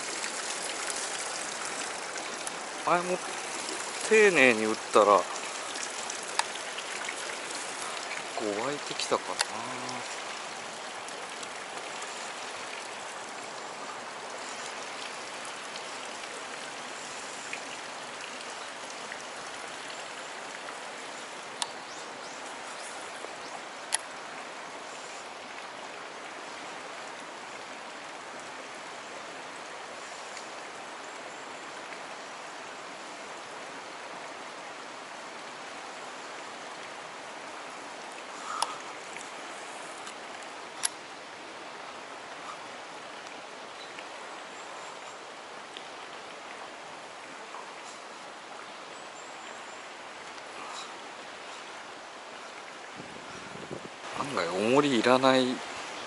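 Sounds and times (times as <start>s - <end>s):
stream water flowing over rocks: 0.0s - 56.0s.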